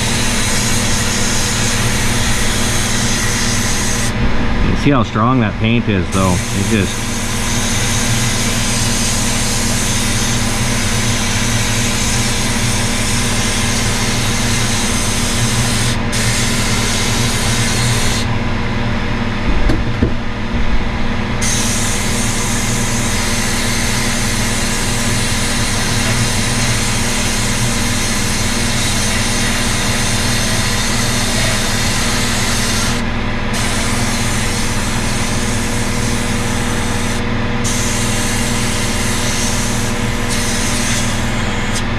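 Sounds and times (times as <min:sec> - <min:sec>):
low machine hum: 0:00.0 - 0:41.9.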